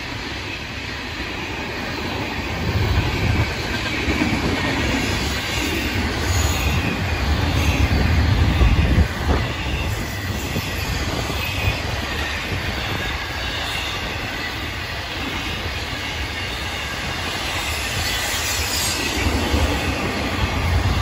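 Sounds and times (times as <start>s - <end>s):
steel wheels rumbling on rails: 0.0s - 21.0s.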